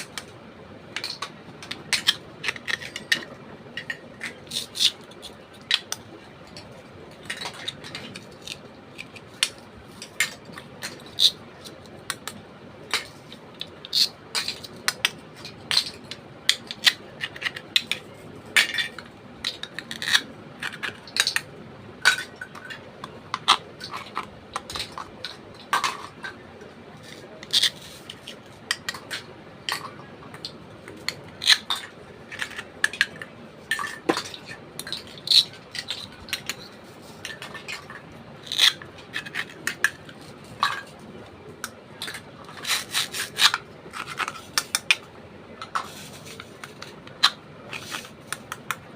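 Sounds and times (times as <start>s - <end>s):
plastic toy pieces clattering: 1.0s - 26.4s, 27.0s - 41.0s.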